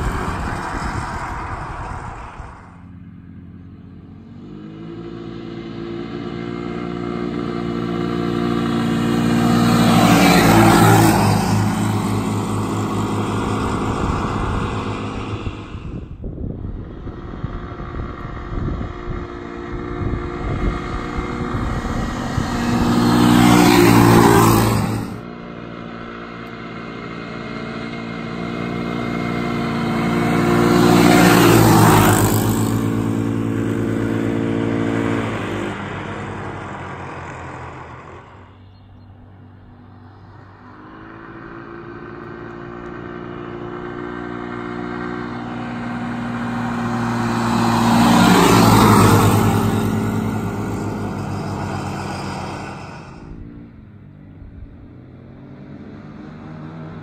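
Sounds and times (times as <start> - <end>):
atv engine at high revs passing: 0.0 - 57.0.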